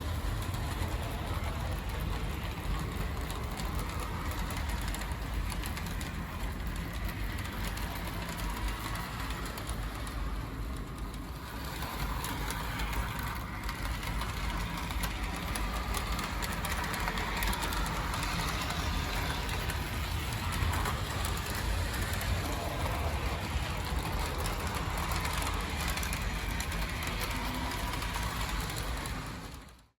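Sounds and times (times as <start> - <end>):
model train motor hum: 0.0 - 29.9
wheels rolling on track: 0.0 - 30.0.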